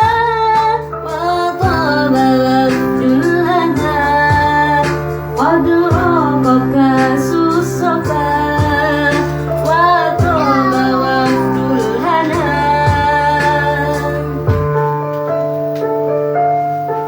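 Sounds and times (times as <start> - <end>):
woman singing devotional song: 0.0 - 14.7
instrumental backing with beat: 0.0 - 17.0.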